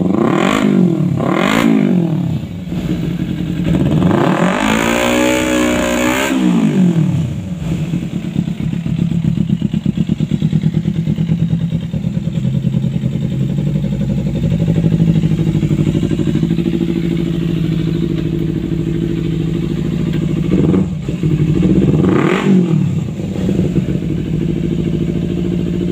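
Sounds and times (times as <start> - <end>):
motorcycle engine revving and idling: 0.0 - 25.9.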